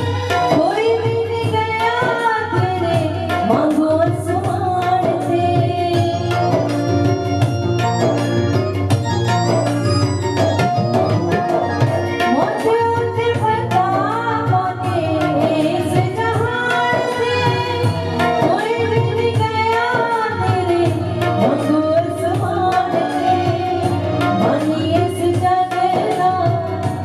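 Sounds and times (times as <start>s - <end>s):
woman singing devotional song: 0.0s - 7.0s, 12.2s - 27.0s
tabla: 0.0s - 27.0s.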